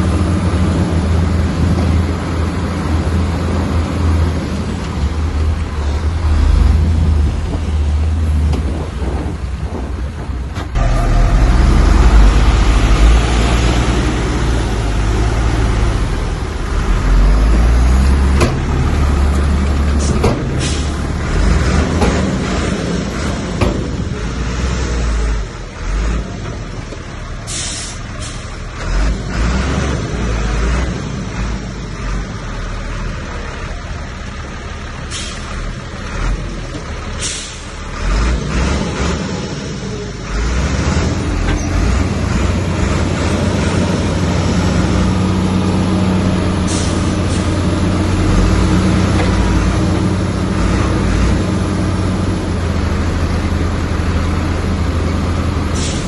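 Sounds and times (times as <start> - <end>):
diesel machinery engine: 0.0 - 56.0.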